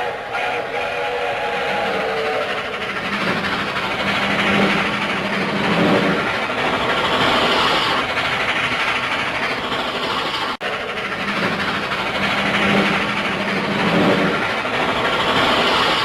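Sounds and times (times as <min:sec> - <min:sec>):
cartoon train rumble and clatter: 0:00.0 - 0:16.0.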